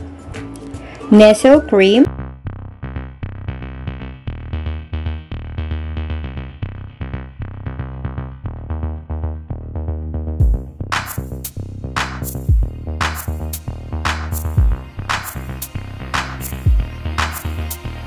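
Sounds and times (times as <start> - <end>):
electronic beat music: 2.3 - 18.0.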